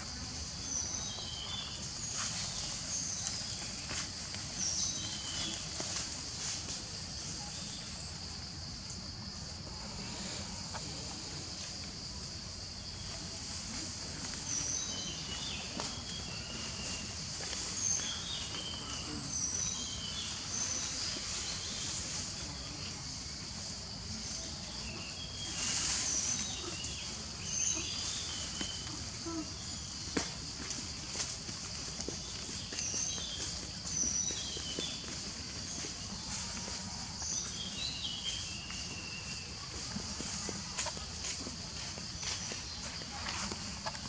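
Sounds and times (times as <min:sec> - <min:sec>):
high-pitched insect chorus: 0:00.0 - 0:44.0
rustle: 0:00.0 - 0:44.0.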